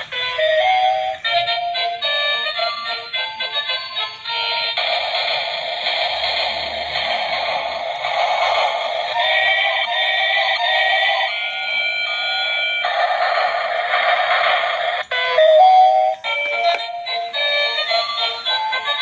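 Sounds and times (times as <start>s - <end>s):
tinny electronic toy melody: 0.0s - 19.0s.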